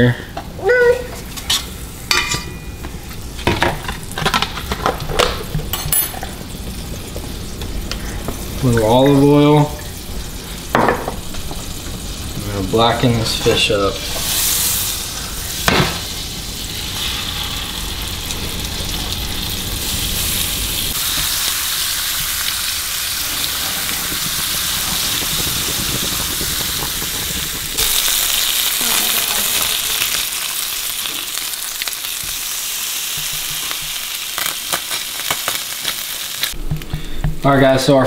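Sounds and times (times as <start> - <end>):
fish sizzling in a pan: 3.0 - 36.9.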